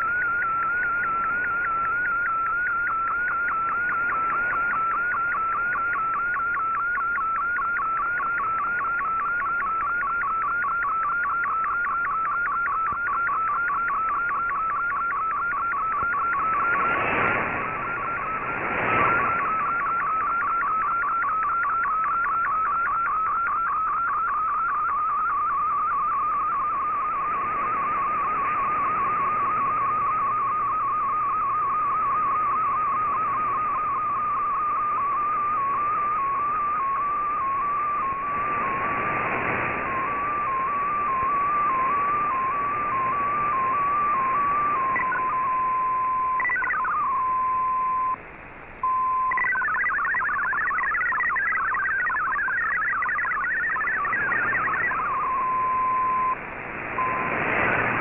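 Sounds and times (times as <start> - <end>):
fast-warbling data tone: 0.0 - 48.2, 48.8 - 58.0
bursts of radio noise: 0.0 - 58.0.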